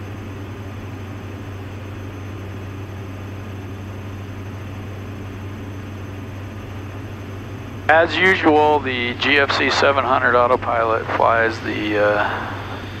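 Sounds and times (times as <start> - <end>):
aircraft engines droning: 0.0 - 13.0.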